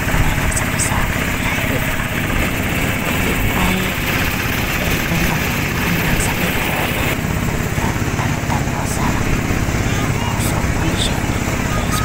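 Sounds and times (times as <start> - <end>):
boat engine running: 0.0 - 12.0
water noise: 0.0 - 12.0.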